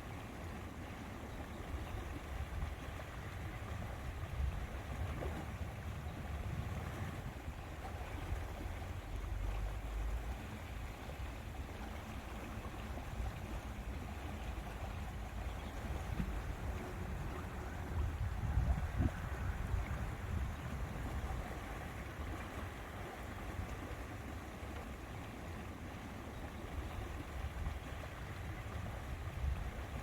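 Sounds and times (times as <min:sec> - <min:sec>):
lake water: 0:00.0 - 0:30.0
wind rumble on microphone: 0:00.1 - 0:30.0.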